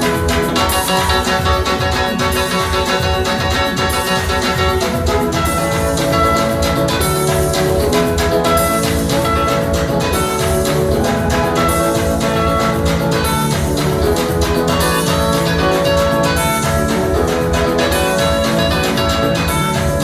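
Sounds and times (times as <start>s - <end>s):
loud dance music: 0.0s - 20.0s.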